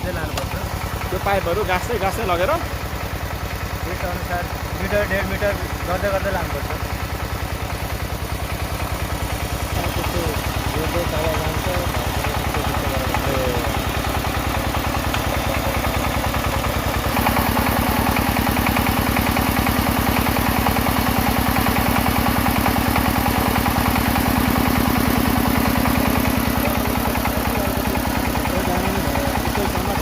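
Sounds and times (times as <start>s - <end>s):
drilling rig engine running: 0.0s - 30.0s.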